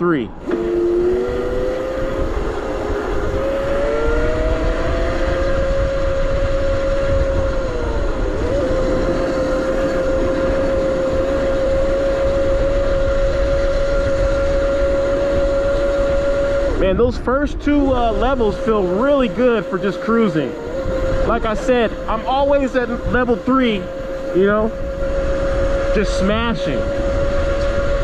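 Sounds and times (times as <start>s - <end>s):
electric motorcycle motor whining: 0.0s - 28.0s
wind rumble on microphone: 0.3s - 28.0s.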